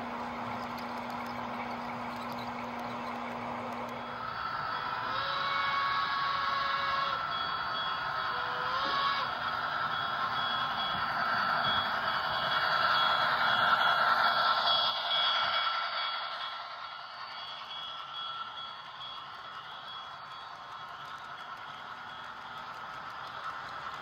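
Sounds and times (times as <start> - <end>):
model train wheels on rails: 0.0 - 24.0.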